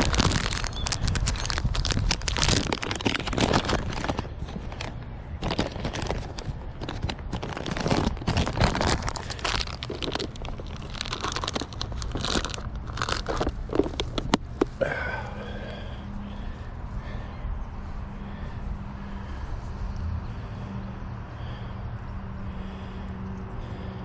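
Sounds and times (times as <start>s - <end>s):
rustling and crackling: 0.0s - 19.8s
steady low rumble: 0.0s - 24.0s.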